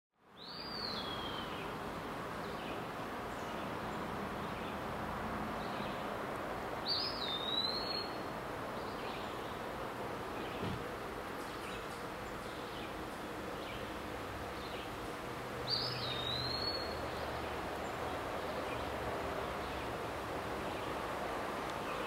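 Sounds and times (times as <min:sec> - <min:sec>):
outdoor background noise: 0:00.1 - 0:22.0.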